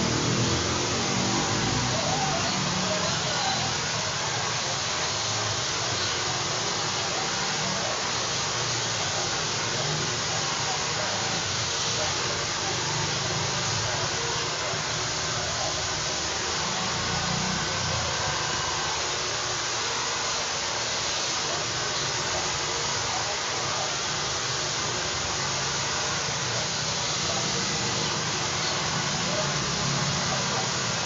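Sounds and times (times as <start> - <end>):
hair dryer blowing: 0.0 - 31.0.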